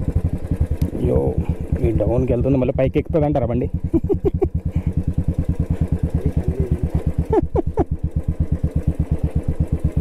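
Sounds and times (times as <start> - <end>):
single-cylinder engine thumping: 0.0 - 10.0.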